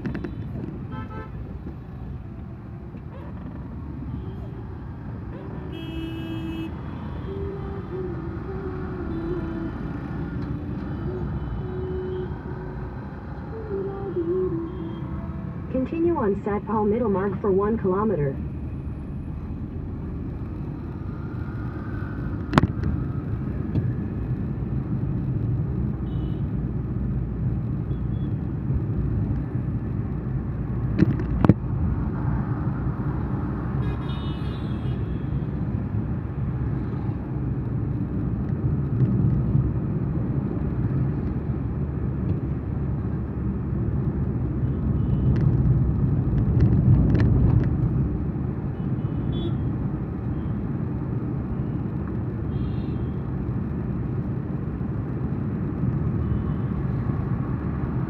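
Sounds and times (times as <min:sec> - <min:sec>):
engine and tyre rumble: 0:00.0 - 0:58.0.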